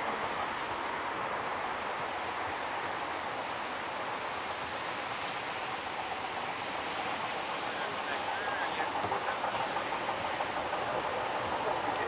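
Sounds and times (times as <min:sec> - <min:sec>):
distant steam locomotive hiss: 0:00.0 - 0:12.0.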